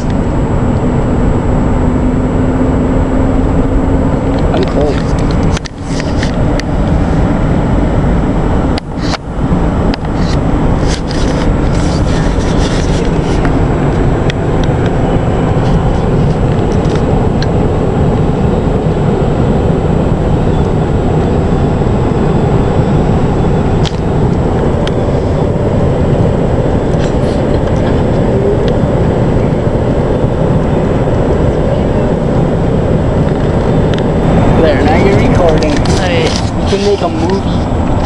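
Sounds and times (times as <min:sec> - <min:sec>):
vehicle rumble from inside cabin: 0:00.0 - 0:38.0.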